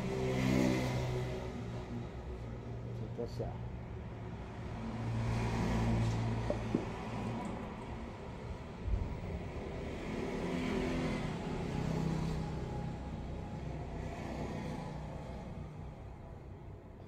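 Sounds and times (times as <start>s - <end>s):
motor vehicle passing: 0.0s - 2.4s, 4.3s - 16.0s.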